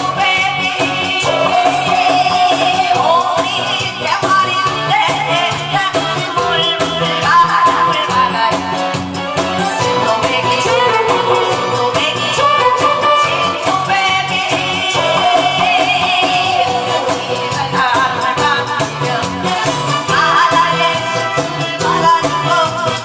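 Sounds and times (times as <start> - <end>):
loud backing track with beat: 0.0 - 23.0
woman singing into a microphone: 0.0 - 23.0.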